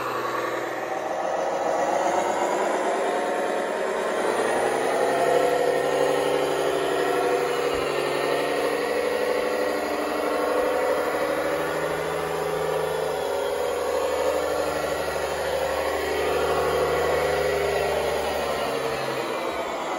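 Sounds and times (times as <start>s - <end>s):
model tractor engine drone: 0.0s - 19.9s.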